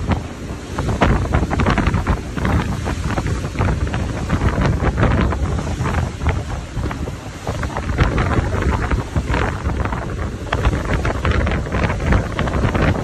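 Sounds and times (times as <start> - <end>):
rough sea splashing: 0.0 - 13.0
wind buffeting microphone: 0.0 - 13.0.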